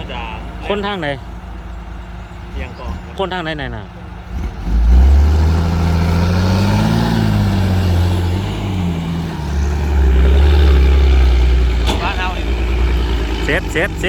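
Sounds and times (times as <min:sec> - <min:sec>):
heavy diesel engine revving: 0:00.0 - 0:14.0.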